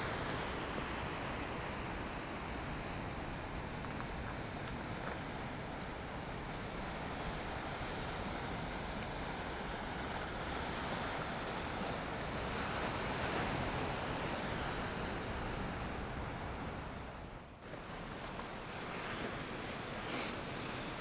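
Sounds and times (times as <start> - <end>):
ocean surf breaking on shore: 0.0 - 21.0
wind buffeting microphone: 0.5 - 17.4.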